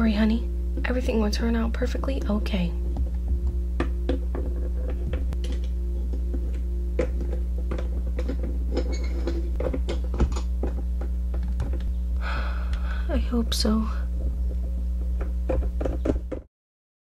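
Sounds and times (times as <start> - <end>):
steady low hum: 0.0 - 16.5.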